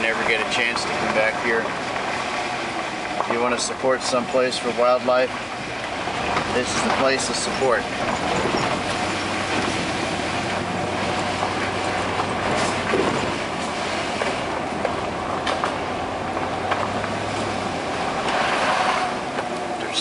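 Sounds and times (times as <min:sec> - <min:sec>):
vehicle running rumble: 0:00.0 - 0:20.0.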